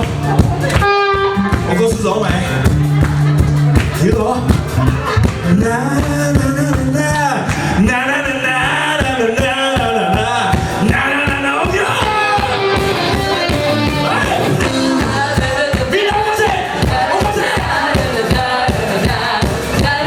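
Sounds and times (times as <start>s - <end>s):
rock and roll music with male singer: 0.0s - 20.0s.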